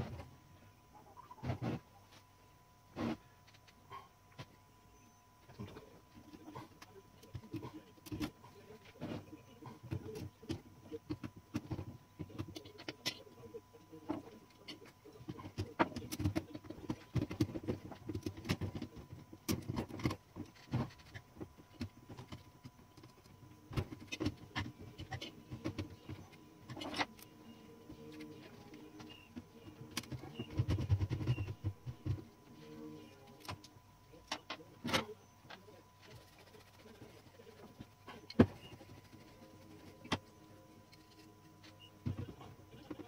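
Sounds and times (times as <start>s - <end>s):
faint steady whine: 0.0s - 43.0s.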